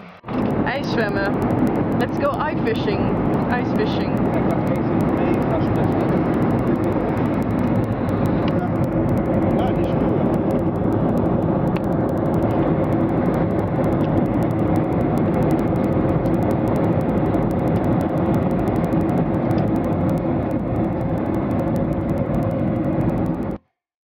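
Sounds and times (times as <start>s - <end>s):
jet cabin engine and airflow noise: 0.0s - 23.6s.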